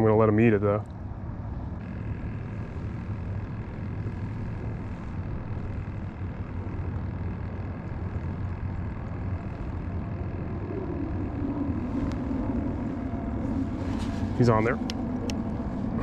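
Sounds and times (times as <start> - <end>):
electric trolling motor whine: 0.0 - 16.0
low rumble of wind and water: 0.0 - 16.0.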